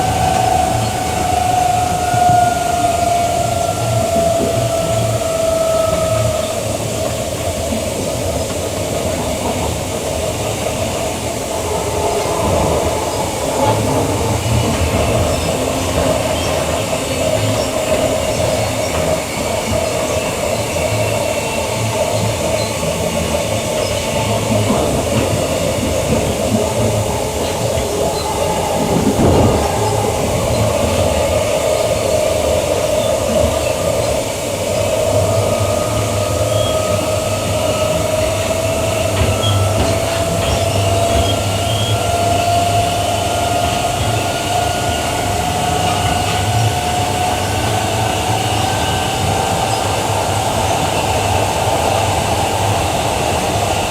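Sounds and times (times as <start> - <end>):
electric train whine: 0.0 - 53.9
train wheels rolling on rails: 0.0 - 53.9.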